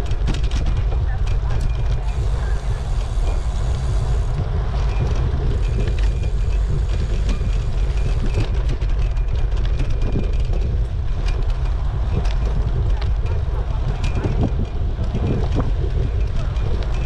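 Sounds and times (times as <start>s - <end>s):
bicycle road rumble: 0.0s - 17.0s
wind buffeting microphone: 0.0s - 17.0s.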